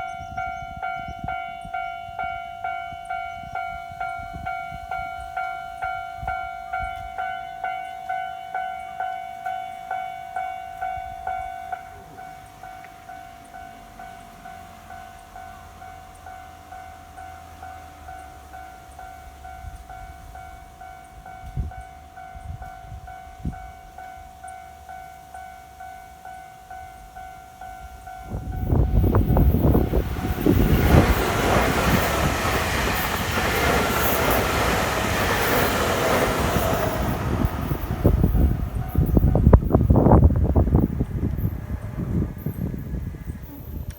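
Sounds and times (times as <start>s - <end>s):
level crossing warning bell ringing: 0.0s - 43.9s
train passing with wheel clatter: 0.0s - 43.9s.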